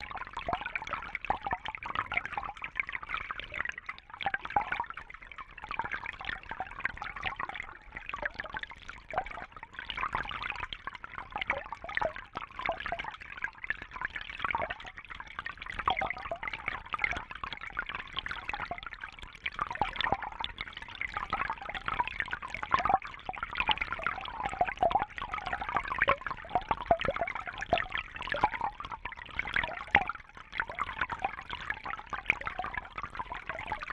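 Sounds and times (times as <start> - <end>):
water bubbling and gurgling: 0.0 - 33.9.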